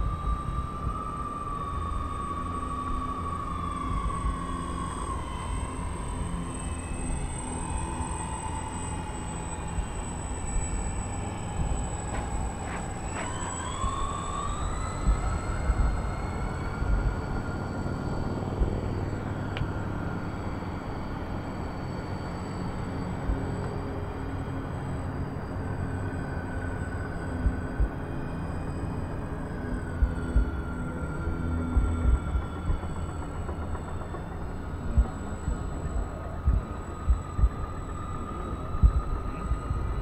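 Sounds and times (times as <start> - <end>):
model plane propellers droning: 0.0 - 40.0.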